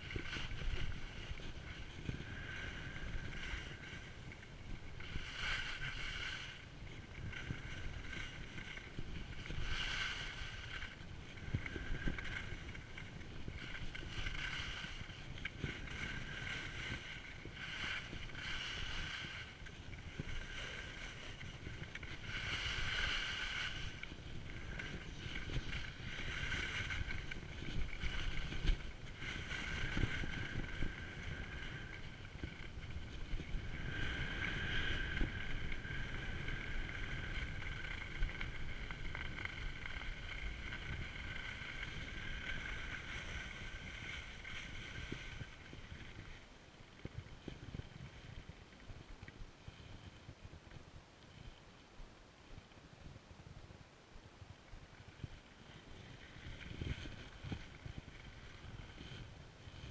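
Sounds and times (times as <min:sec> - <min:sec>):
skis scraping over snow: 0:00.0 - 0:51.8, 0:54.9 - 0:59.9
wind rumble on microphone: 0:00.0 - 0:59.9.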